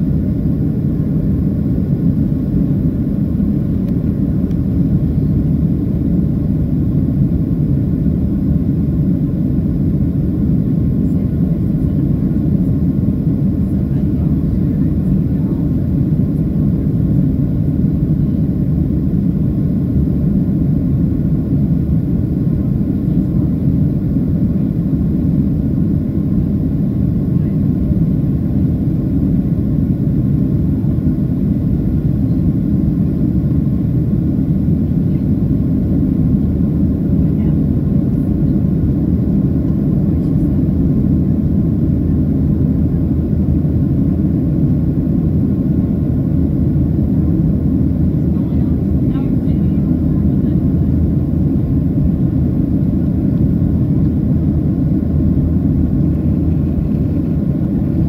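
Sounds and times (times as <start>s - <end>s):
airplane cabin roar: 0.0s - 58.0s.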